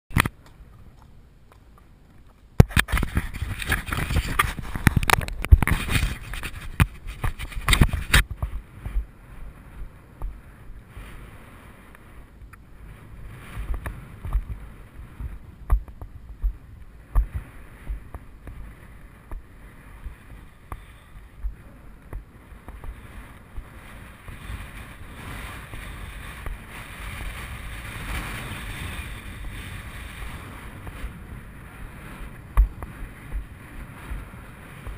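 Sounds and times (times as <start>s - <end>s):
wind rushing over microphone: 2.6s - 34.9s.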